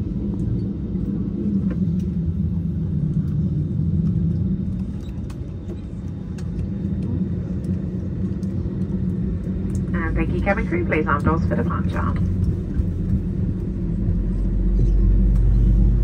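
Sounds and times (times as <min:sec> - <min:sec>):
cabin ventilation rumble: 0:00.0 - 0:16.0.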